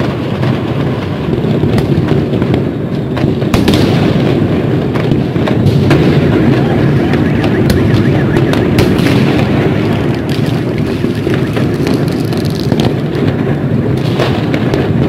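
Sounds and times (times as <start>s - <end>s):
fireworks bursting: 0.0s - 15.0s
sharp firework cracks: 0.0s - 15.0s.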